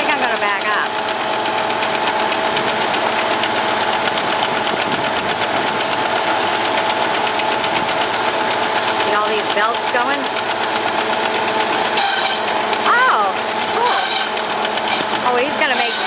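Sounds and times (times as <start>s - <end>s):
shingle mill running: 0.0s - 16.0s.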